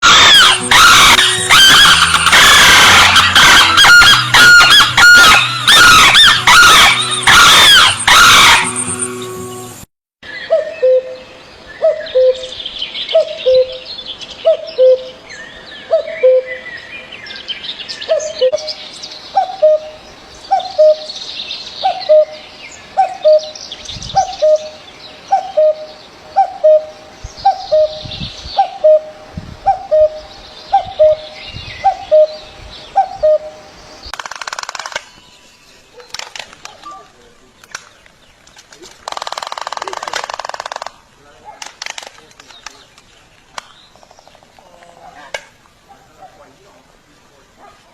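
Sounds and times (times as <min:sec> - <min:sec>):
birds chirping and trilling: 0:00.0 - 0:47.9.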